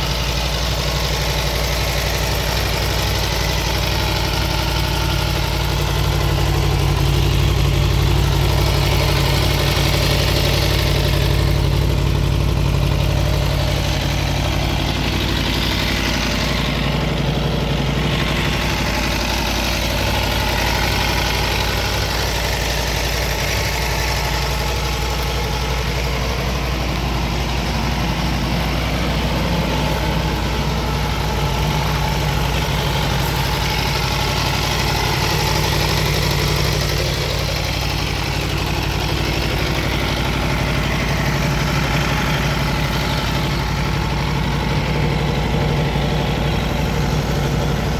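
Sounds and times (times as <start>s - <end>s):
motorcycle engine idling: 0.0s - 47.9s.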